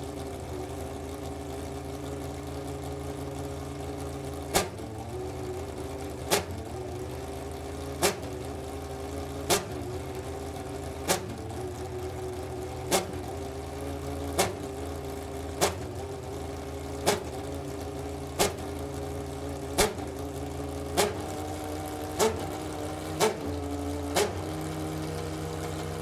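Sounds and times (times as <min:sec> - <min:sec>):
race car engine idling: 0:00.0 - 0:26.0.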